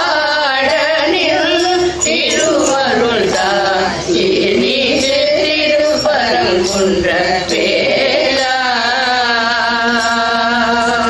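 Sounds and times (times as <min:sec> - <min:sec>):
women singing in unison: 0:00.0 - 0:11.0.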